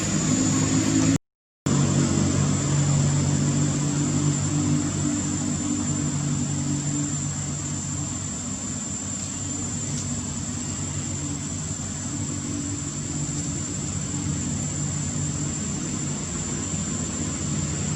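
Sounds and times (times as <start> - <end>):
engine hum: 0.0 - 17.9.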